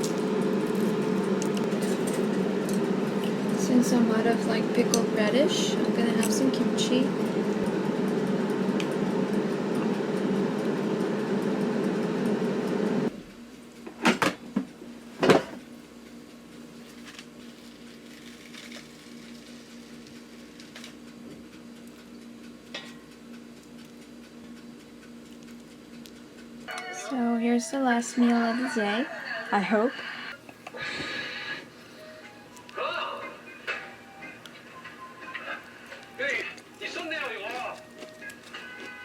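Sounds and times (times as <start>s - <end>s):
kitchen appliance humming: 0.0s - 39.0s.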